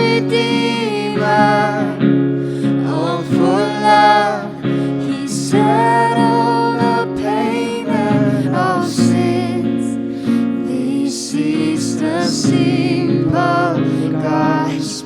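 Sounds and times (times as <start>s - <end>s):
person singing: 0.0s - 15.0s
strummed acoustic guitar: 0.0s - 15.0s.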